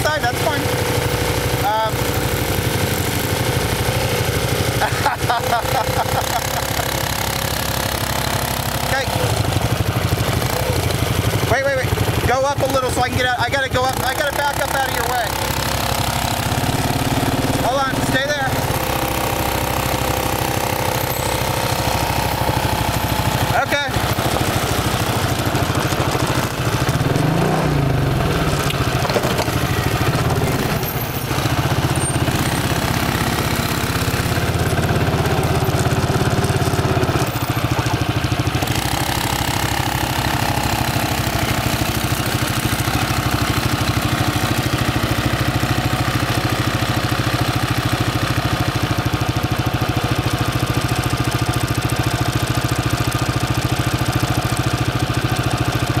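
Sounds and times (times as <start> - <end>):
atv engine idling: 0.0 - 56.0
engine revving: 0.0 - 56.0.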